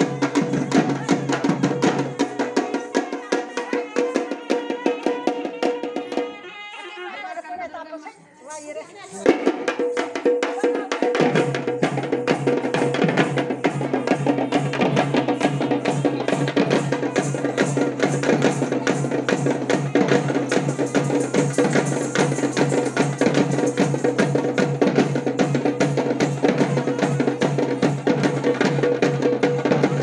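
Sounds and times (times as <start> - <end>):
fast steady drumming: 0.0 - 6.5, 8.6 - 30.0.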